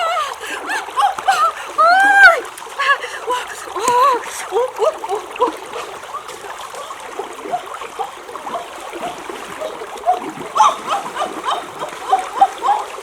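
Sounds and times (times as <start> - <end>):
water trickling and gurgling: 0.0 - 13.0.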